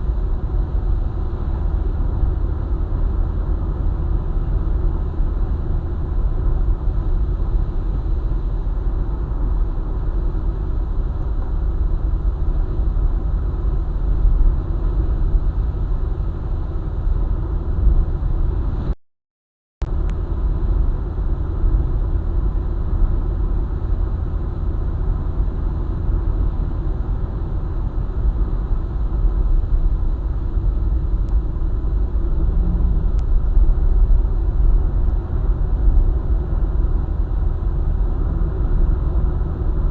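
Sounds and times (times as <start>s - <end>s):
car tyre and engine rumble: 0.0s - 19.0s, 19.8s - 39.9s.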